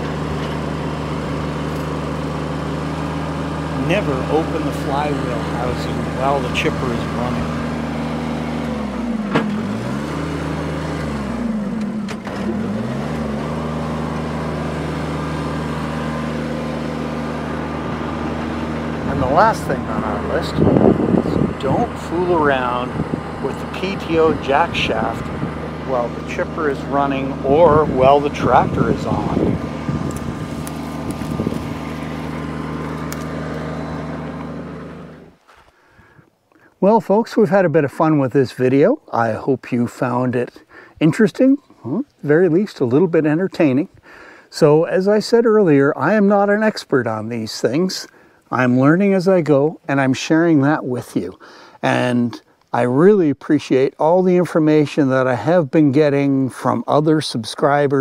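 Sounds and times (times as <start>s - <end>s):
tractor engine running: 0.0s - 36.2s, 36.9s - 58.0s
wood chipper droning: 0.0s - 58.0s.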